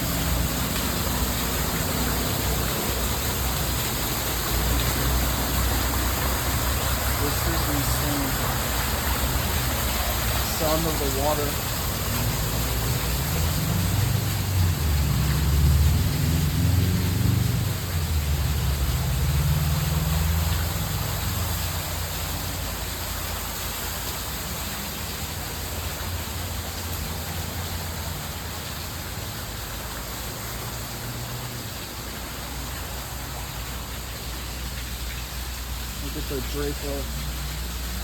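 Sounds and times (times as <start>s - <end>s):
splashing of falling water: 0.0s - 38.0s.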